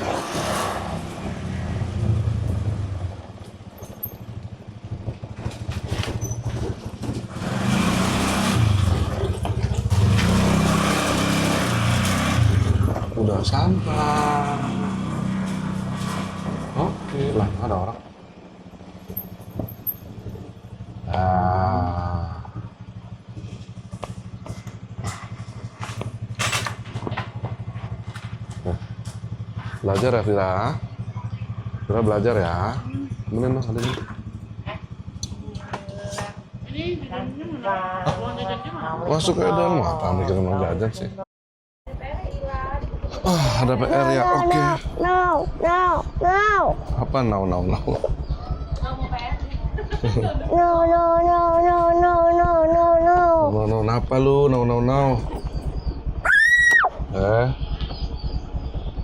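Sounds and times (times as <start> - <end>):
vehicle engine and road noise: 0.0 - 41.2, 41.9 - 59.0.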